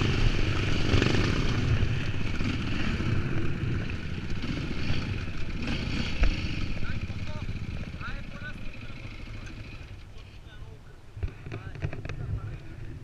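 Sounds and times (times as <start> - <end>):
dirt bike engine under throttle: 0.0 - 10.4.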